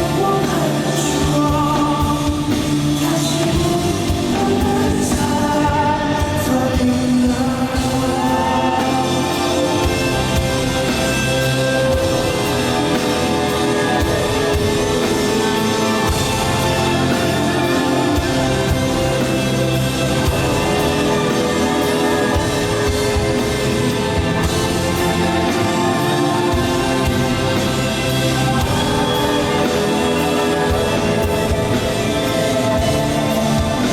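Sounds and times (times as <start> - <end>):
live band instrumental: 0.0 - 33.9.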